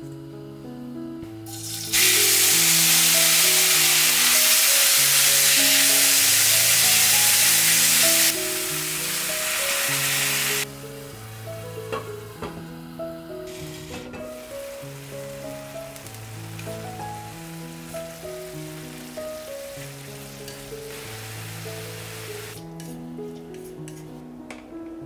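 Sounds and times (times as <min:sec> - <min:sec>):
vegetables sizzling in oil: 0:01.4 - 0:22.9.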